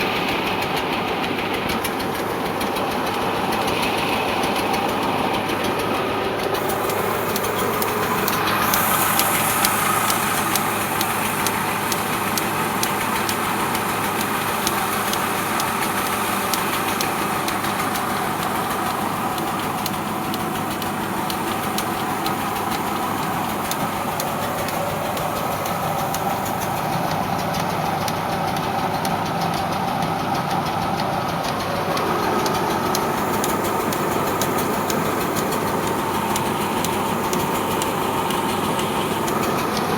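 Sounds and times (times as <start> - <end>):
tractor diesel engine knocking: 0.0 - 39.9.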